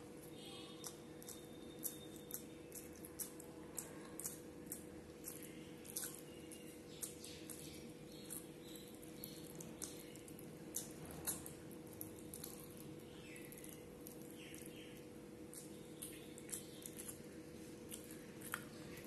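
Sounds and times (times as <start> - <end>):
low background hum: 0.0 - 19.0
wet chewing and lip-smacking: 0.1 - 19.0.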